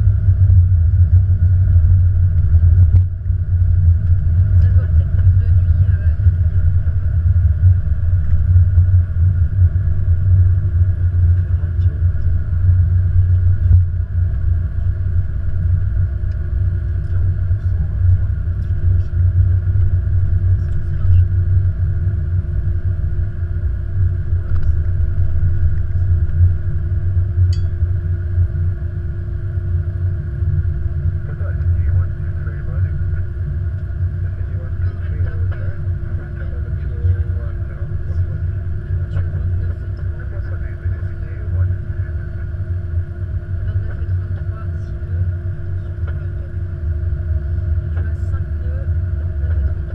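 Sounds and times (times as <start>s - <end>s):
aircraft landing rumble: 0.0s - 49.9s
constant hum: 0.0s - 49.9s.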